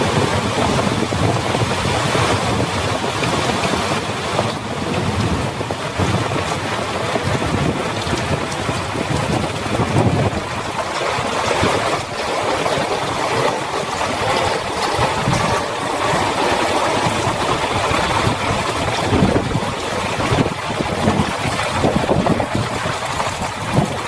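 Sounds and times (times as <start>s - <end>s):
heavy rain falling: 0.0s - 24.0s
low rumbles: 0.0s - 24.0s.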